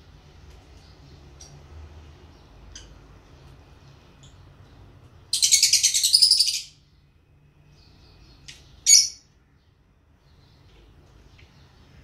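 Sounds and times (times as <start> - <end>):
lovebirds chirping: 0.6 - 12.0.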